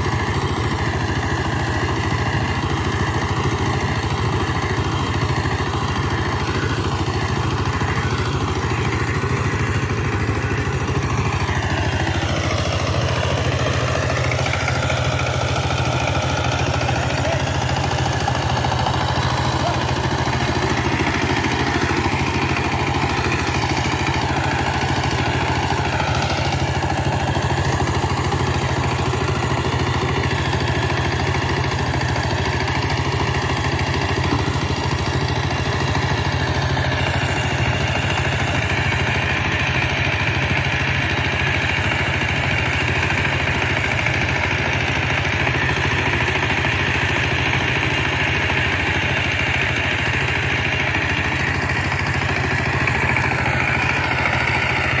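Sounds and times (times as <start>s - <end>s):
diesel tiller engine running: 0.0s - 55.0s.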